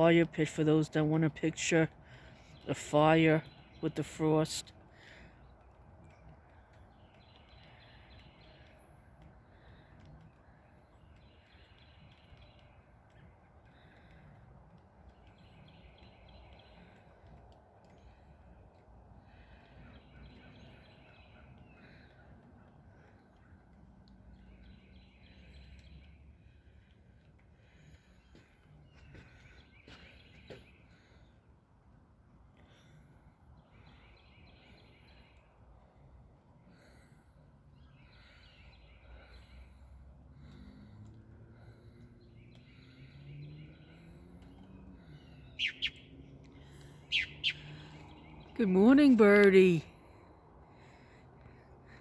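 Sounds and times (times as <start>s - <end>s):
faint birds calling: 0.0s - 52.0s
low outdoor rumble: 0.0s - 52.0s.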